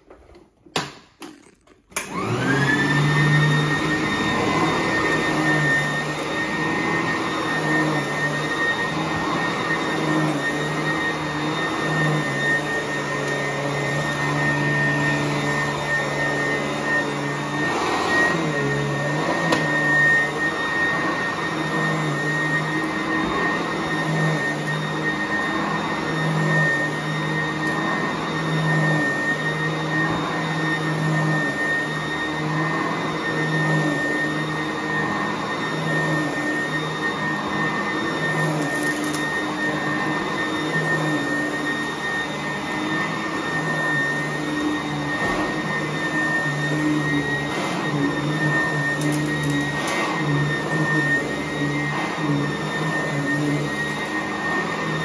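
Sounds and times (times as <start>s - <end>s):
vacuum cleaner motor whine: 1.9s - 55.0s.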